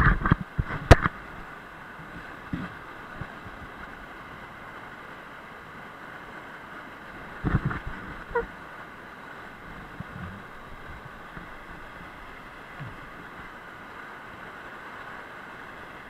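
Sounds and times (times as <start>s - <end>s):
waterfall rushing: 0.7s - 16.0s.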